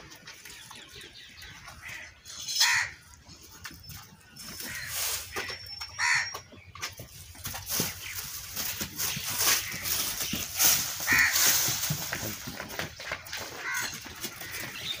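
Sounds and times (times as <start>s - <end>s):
animals rustling on straw: 0.0s - 15.0s.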